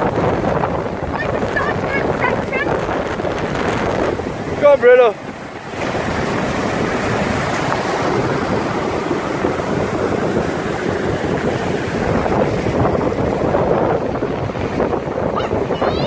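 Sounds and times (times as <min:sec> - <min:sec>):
surf washing over pebbles: 0:00.0 - 0:16.0
wind buffeting microphone: 0:00.0 - 0:16.0.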